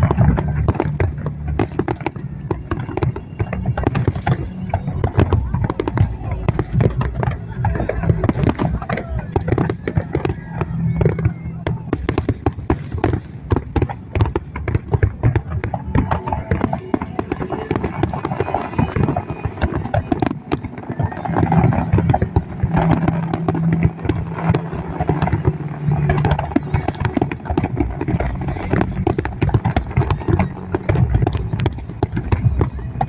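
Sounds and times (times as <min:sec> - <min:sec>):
fireworks bangs and crackles: 0:00.0 - 0:33.0
low rumble: 0:00.0 - 0:33.0.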